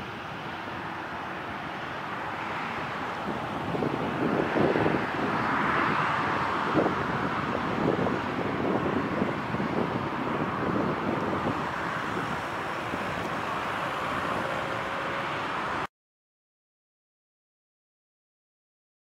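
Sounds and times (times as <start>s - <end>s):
faint engine whine: 0.0s - 15.9s
jet engines rushing hum: 0.0s - 15.9s
wind noise on microphone: 0.0s - 15.9s.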